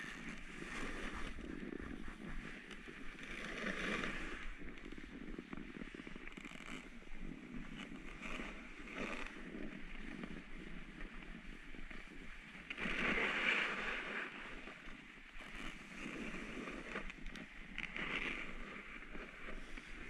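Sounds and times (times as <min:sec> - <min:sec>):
ski edges scraping on snow: 0:00.0 - 0:20.0
wind on microphone: 0:00.0 - 0:20.0.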